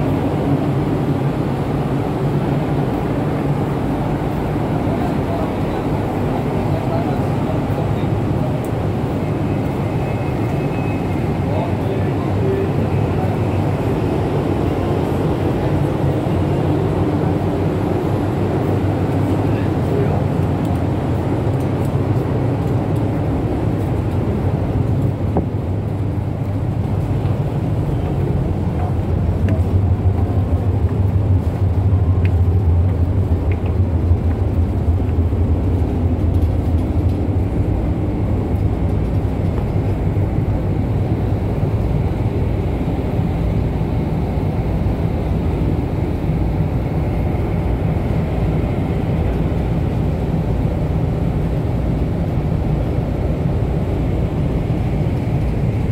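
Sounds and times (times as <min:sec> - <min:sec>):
ship engine drone: 0:00.0 - 0:55.9.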